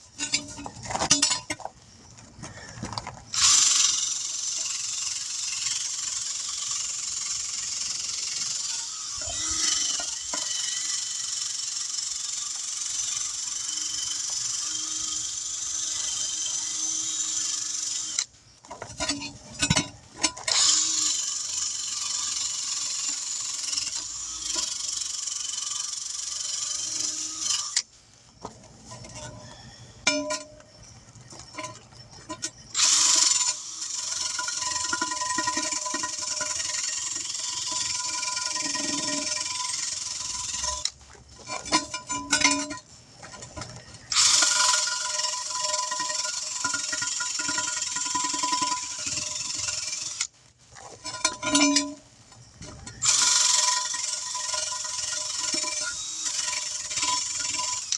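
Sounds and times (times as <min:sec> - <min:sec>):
wire brush drill scraping metal: 0:00.0 - 0:01.7, 0:02.4 - 0:57.9.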